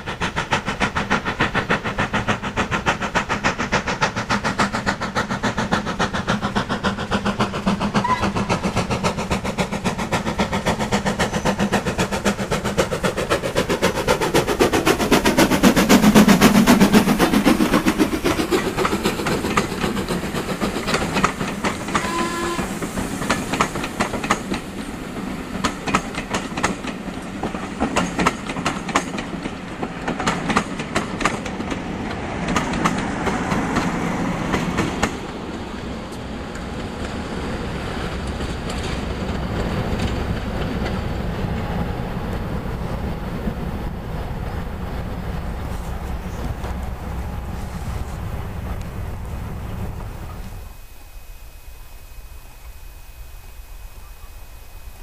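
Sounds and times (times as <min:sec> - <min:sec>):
train wheels clicking over rail joints: 0:00.0 - 0:50.9
diesel locomotive: 0:00.0 - 0:55.0
steam locomotive exhaust beats: 0:00.0 - 0:55.0.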